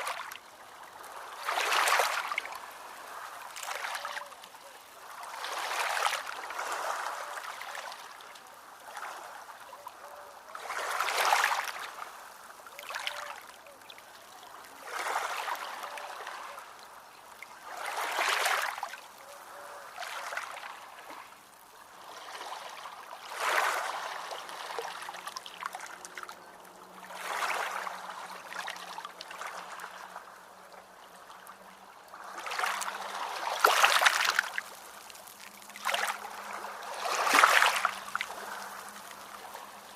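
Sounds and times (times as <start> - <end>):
small ocean waves splashing ashore: 0.0 - 39.9.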